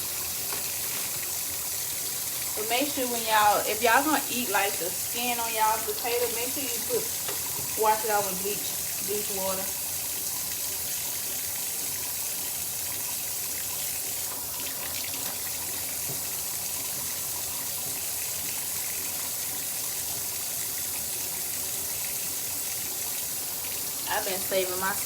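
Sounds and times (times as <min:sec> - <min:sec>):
faucet running into a sink: 0:00.0 - 0:25.0.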